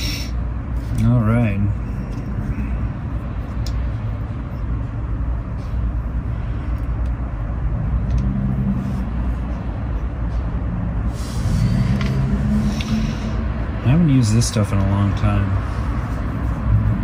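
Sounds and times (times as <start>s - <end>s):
low rumble: 1.7s - 14.4s, 15.6s - 17.0s.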